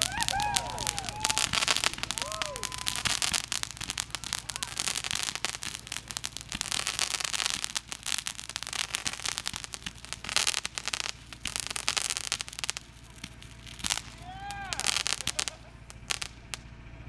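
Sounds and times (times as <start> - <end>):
fireworks hissing: 0.0 - 16.8
fireworks crackling and popping: 0.0 - 17.0.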